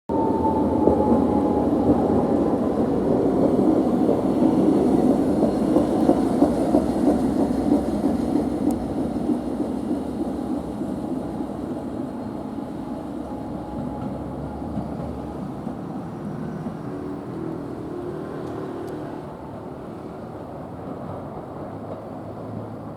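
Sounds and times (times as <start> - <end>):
streetcar rumbling past: 0.1 - 22.9.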